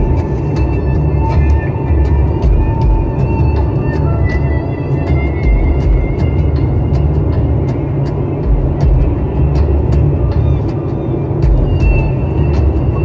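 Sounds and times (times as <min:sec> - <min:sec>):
car tyre and wind rumble: 0:00.0 - 0:13.0.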